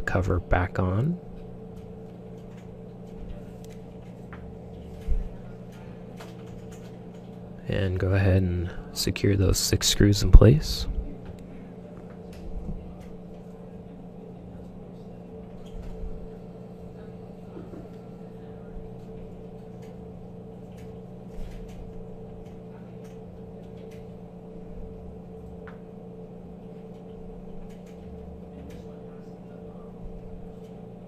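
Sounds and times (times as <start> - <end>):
background hum: 0.0 - 31.0.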